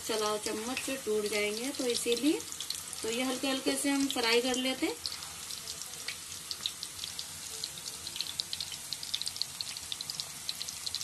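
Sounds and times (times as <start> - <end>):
meatballs deep-frying sizzle: 0.0 - 11.0.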